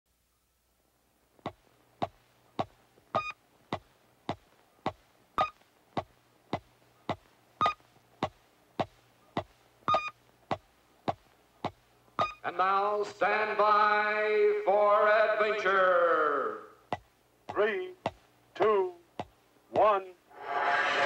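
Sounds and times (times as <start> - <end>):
faint low hum: 0.1 - 21.0.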